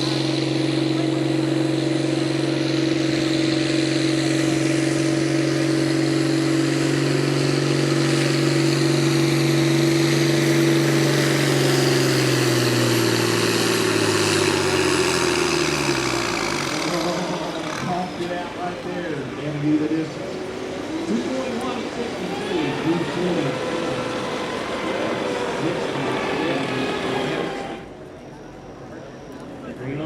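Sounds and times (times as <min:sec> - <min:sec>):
engine running at high revs: 0:00.0 - 0:28.1.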